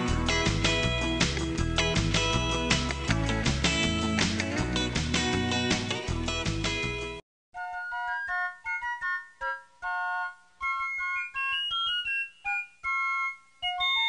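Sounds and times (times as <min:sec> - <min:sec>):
light keyboard melody: 0:00.0 - 0:14.0.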